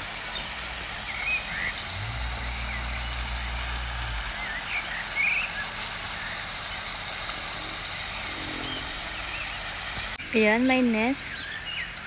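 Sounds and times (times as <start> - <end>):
fountain splashing: 0.0 - 12.0
small birds chirping: 0.2 - 12.0.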